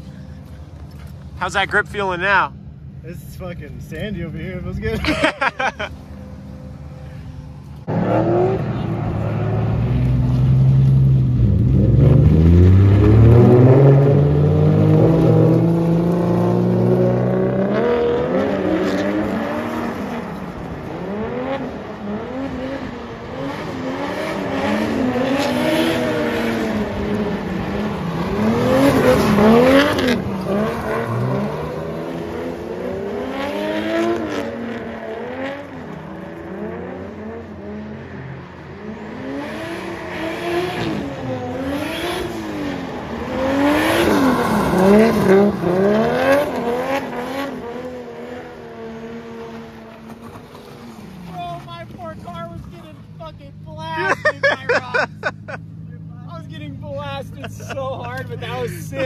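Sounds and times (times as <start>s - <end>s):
car engines revving: 0.0s - 59.0s
tire noise: 0.0s - 59.0s
car pulling away: 3.6s - 59.0s.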